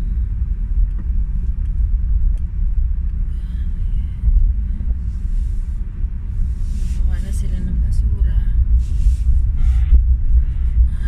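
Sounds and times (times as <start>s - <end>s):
engine and road noise in car: 0.0s - 11.0s.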